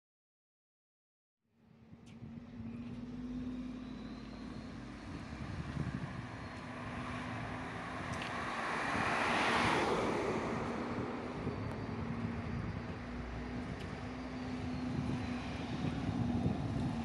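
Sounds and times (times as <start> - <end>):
low hum of traffic: 1.5 - 17.0
car driving past: 2.2 - 17.0.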